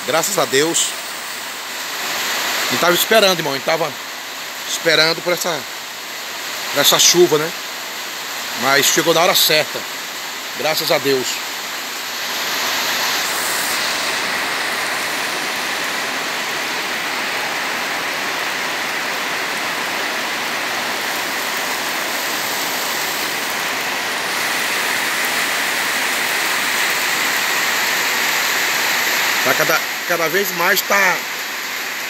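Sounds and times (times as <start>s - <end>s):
heavy rain on pavement: 0.0s - 32.0s.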